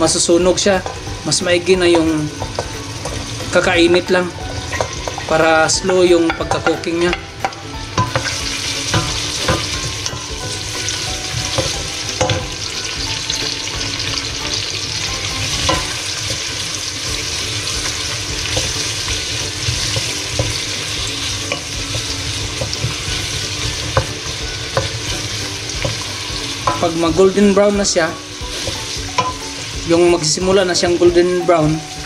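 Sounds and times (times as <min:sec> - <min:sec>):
garlic and onion sizzling in oil: 0:00.0 - 0:32.0.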